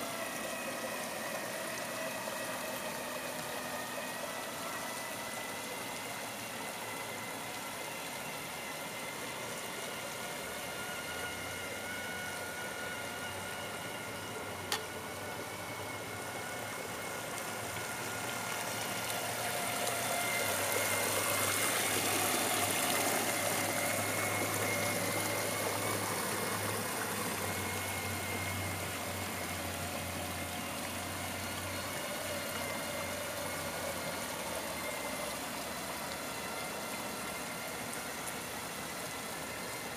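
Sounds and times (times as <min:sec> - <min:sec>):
electric motor whine: 0:00.0 - 0:39.9
paddlewheel splashing water: 0:00.0 - 0:39.9.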